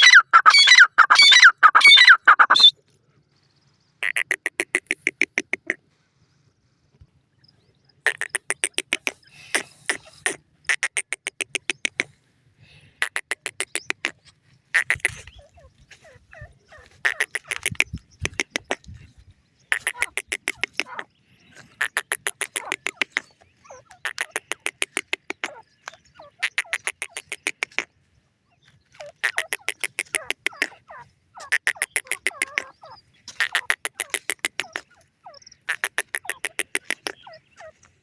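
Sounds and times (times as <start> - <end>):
francolin rapid clicking calls: 0.0 - 2.8, 4.0 - 5.8, 8.0 - 12.1, 13.0 - 38.0.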